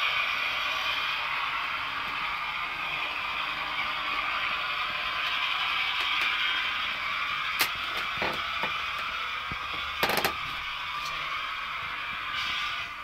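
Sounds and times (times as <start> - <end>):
model train diesel sound: 0.0 - 13.0.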